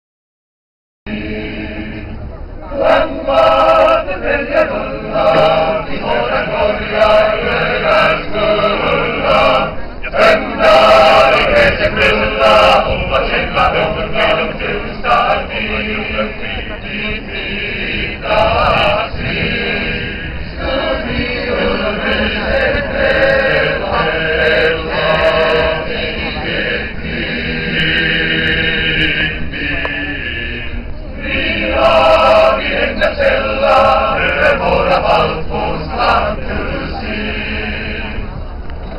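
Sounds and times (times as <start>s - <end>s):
male choir singing: 1.1s - 38.5s.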